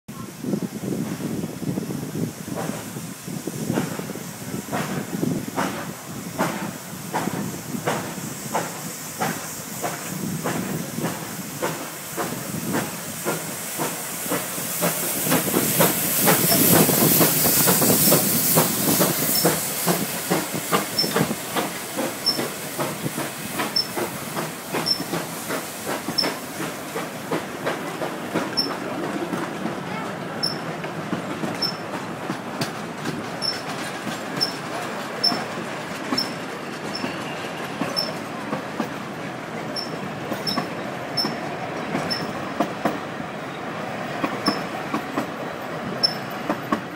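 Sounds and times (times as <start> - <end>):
loud hiss of steam: 0.1 - 46.9
steam locomotive exhaust chuffs: 0.6 - 46.9.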